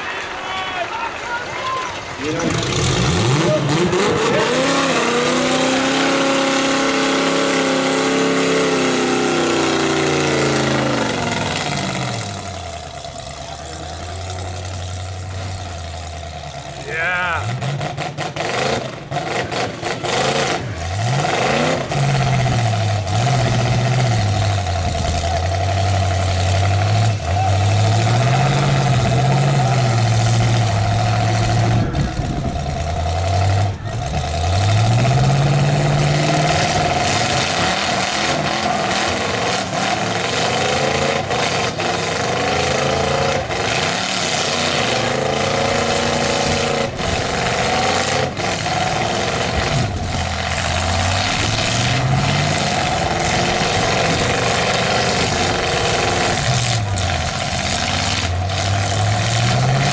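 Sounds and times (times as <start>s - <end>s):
car engines revving hard: 2.0s - 59.9s.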